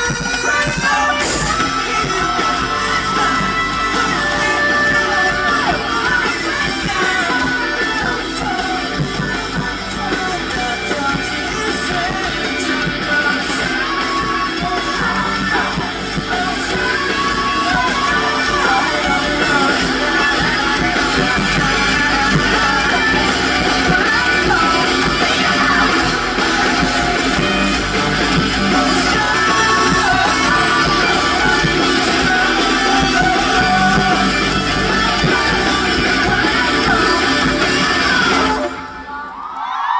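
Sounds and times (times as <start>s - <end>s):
live rock band music: 0.0s - 39.4s
electric guitar: 0.0s - 39.7s
person singing: 0.0s - 39.9s.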